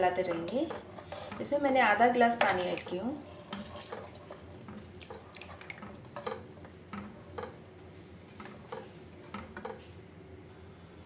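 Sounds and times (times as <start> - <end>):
spatula tapping and scraping pot: 0.0 - 7.7, 8.3 - 9.9
spatula stirring thick gravy: 0.0 - 9.8.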